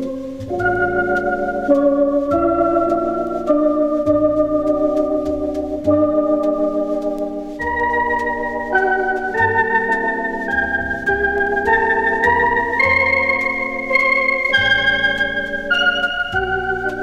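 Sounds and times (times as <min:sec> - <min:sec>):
organ music: 0:00.0 - 0:17.0
record surface clicks: 0:00.0 - 0:17.0.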